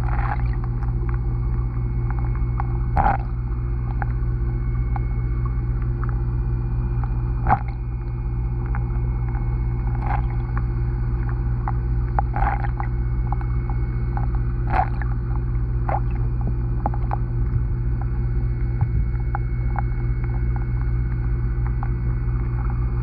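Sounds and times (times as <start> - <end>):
low underwater hum: 0.0 - 23.0.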